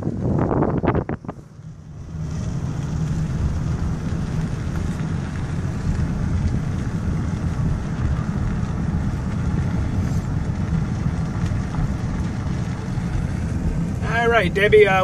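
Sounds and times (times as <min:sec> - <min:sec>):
wind gusting over microphone: 0:00.0 - 0:14.6
car interior rumble: 0:00.0 - 0:15.0.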